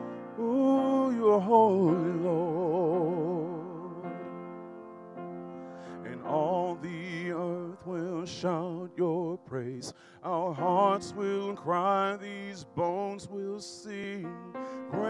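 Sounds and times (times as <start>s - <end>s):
man singing wordless line: 0.4s - 4.1s, 6.0s - 15.0s.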